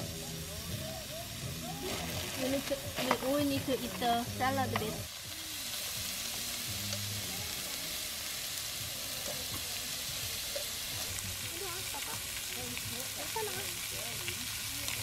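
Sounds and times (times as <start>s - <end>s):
pork sizzling in pan: 0.0s - 15.0s.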